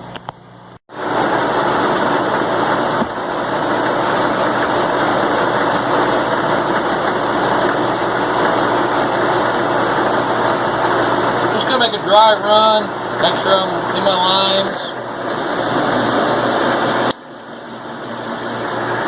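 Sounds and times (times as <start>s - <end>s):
milling machine running: 0.0s - 19.0s.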